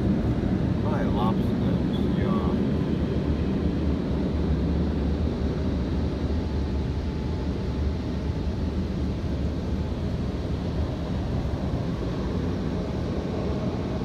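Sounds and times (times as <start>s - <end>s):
car wash rumble inside car: 0.0s - 14.0s.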